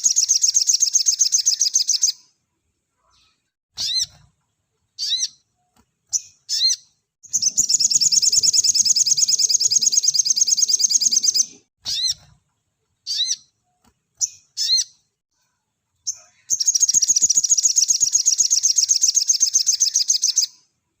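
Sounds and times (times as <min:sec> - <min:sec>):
songbird chirping and trilling: 0:00.0 - 0:02.4, 0:03.0 - 0:12.4, 0:13.0 - 0:15.1, 0:16.0 - 0:20.7.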